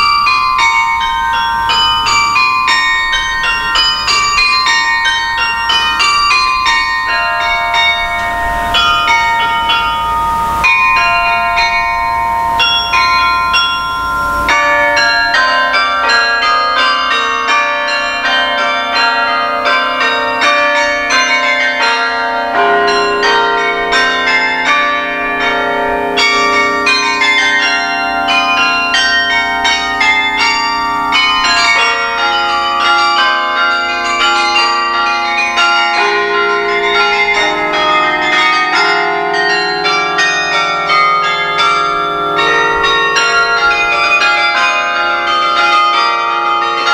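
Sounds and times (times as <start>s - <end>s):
carillon bells melody: 0.0s - 46.9s
deep bass bells: 0.0s - 46.9s.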